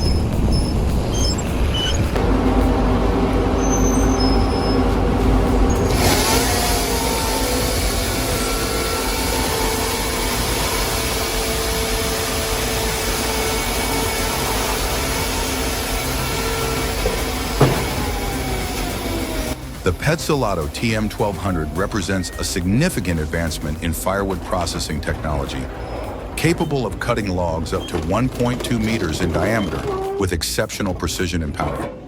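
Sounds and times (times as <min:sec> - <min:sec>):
engine running under load: 0:00.0 - 0:29.7.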